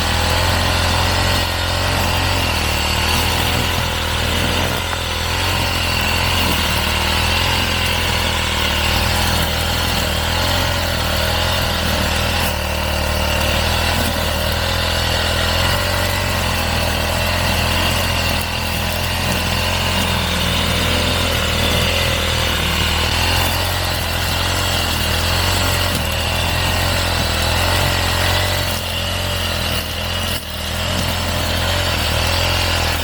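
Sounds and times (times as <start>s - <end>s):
brushcutter engine running: 0.0s - 33.0s.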